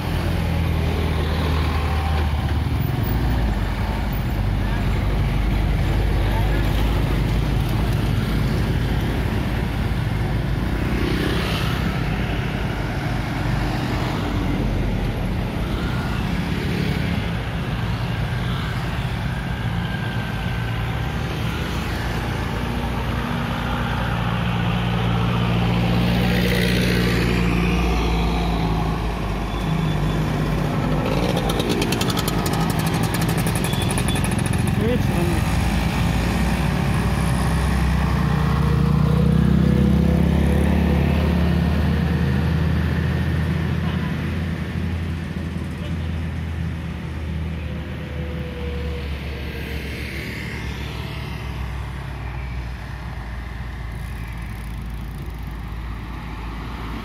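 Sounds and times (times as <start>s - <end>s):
cars passing: 0.0s - 57.0s
motorcycle and scooter engines: 0.0s - 57.0s.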